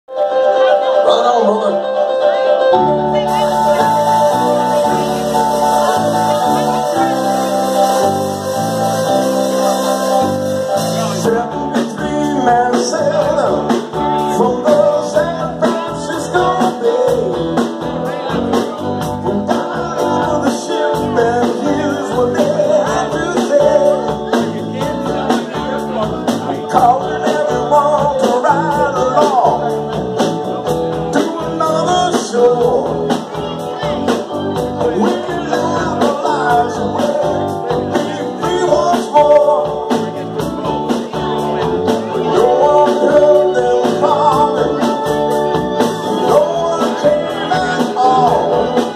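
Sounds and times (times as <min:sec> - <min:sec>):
live band playing: 0:00.1 - 0:48.9
man singing: 0:00.5 - 0:48.9
steady drum beat: 0:03.2 - 0:48.9.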